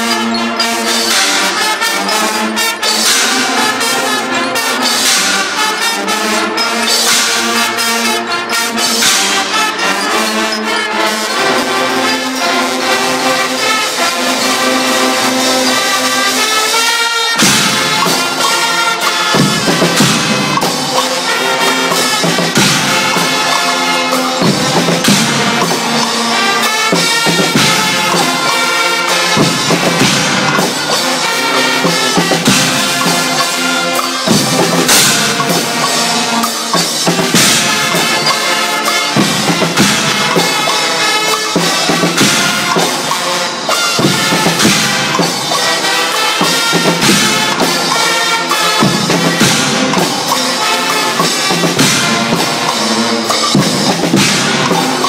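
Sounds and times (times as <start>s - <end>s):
brass band playing: 0.0s - 55.0s
drum kit beat: 1.4s - 55.0s.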